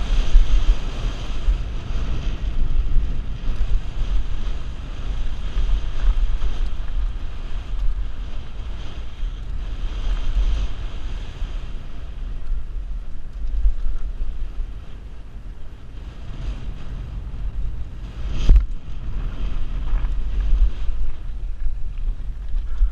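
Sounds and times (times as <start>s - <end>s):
mountain bike rumble and rattle: 0.0s - 22.9s
wind buffeting microphone: 0.0s - 22.9s.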